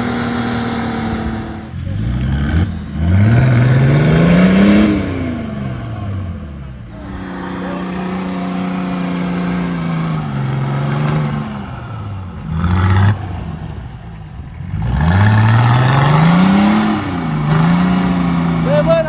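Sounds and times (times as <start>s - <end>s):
diesel engine revving under load: 0.0s - 19.0s.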